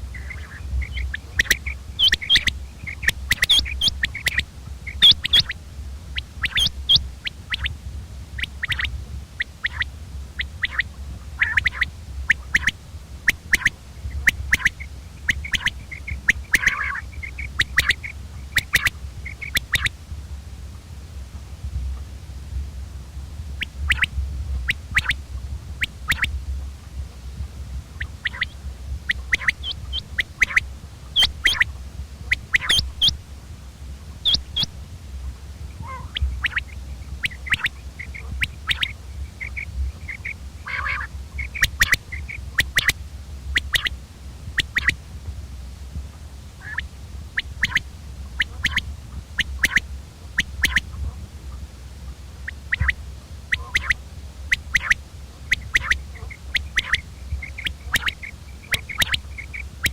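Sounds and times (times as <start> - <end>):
quail calling: 0.0 - 7.8, 8.4 - 20.0, 23.6 - 26.4, 27.9 - 33.4, 34.0 - 45.0, 46.6 - 59.9
steady low hum: 0.0 - 59.9.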